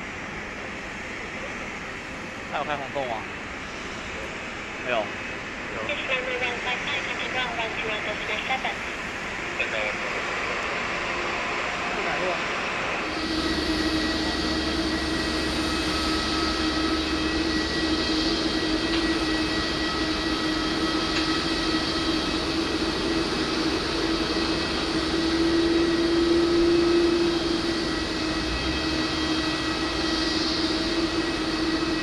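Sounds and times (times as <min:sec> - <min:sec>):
jet engine hum with whine: 0:00.0 - 0:32.0.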